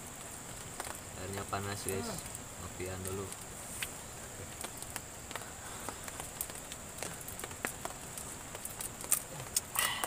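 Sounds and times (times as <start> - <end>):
small clicks and crackles: 0.0 - 10.0.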